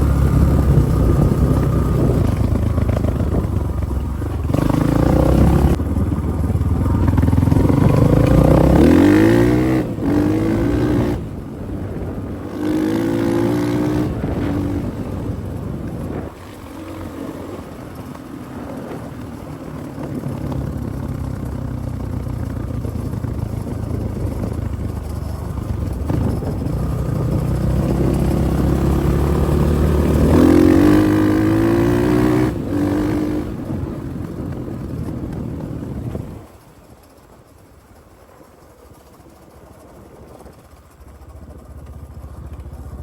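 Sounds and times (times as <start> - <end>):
motorcycle engine revving: 0.0 - 36.5, 40.6 - 43.0.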